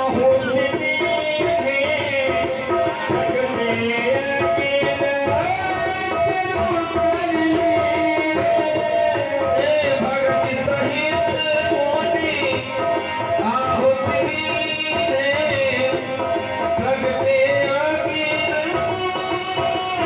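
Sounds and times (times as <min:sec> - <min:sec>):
jingling percussion beat: 0:00.0 - 0:05.8, 0:06.9 - 0:20.0.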